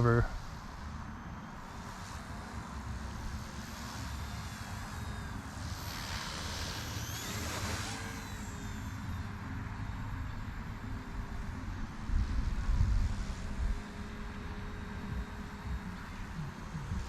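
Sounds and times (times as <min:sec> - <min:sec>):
toy helicopter rotors whining: 0:00.0 - 0:17.0.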